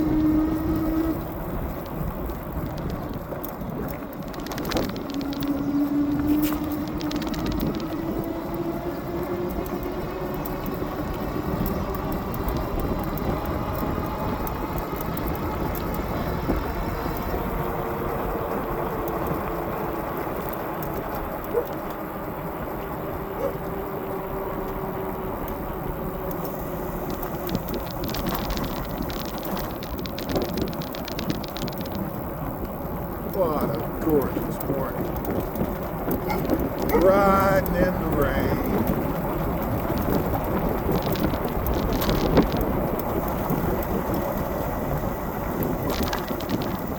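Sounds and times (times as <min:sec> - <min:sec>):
electric motors whining: 0:00.0 - 0:46.9
tyre and wind rumble: 0:00.0 - 0:46.9.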